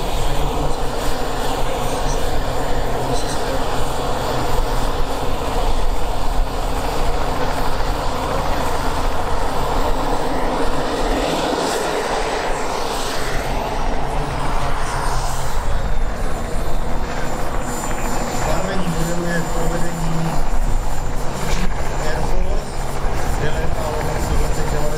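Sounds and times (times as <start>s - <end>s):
model jet turbine engine: 0.0s - 24.9s.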